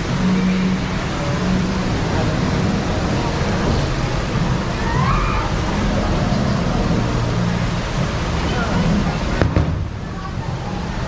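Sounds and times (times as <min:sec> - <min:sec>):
water rushing through flume: 0:00.0 - 0:11.0.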